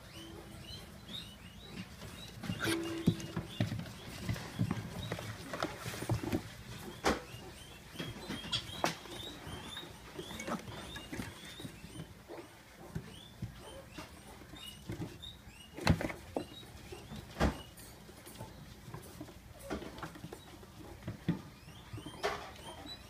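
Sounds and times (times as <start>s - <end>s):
piglets squeaking: 0.0s - 17.8s, 20.4s - 23.0s.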